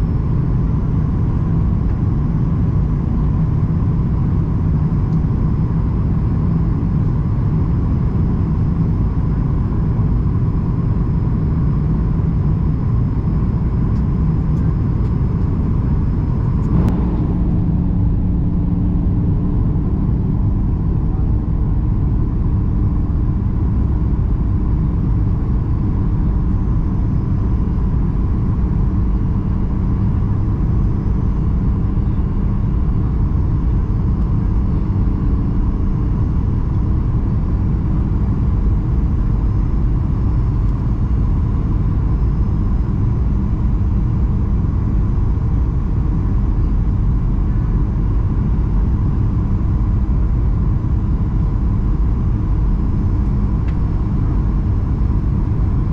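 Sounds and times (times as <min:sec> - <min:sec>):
aircraft cabin engine roar: 0:00.0 - 0:55.9
faint steady whine: 0:00.0 - 0:55.9.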